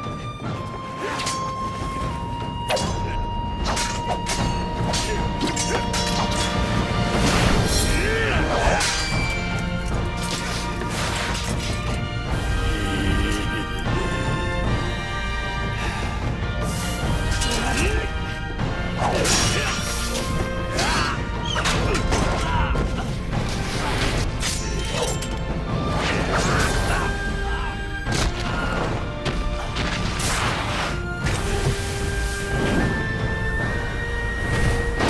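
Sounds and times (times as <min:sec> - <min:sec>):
dramatic background music: 0:00.0 - 0:35.0.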